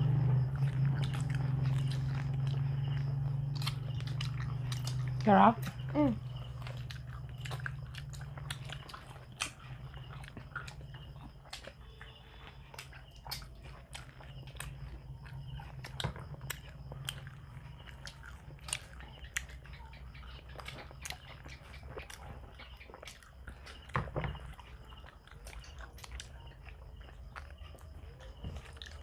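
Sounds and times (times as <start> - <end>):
low steady hum: 0.0 - 29.0
people chewing food: 0.0 - 29.0.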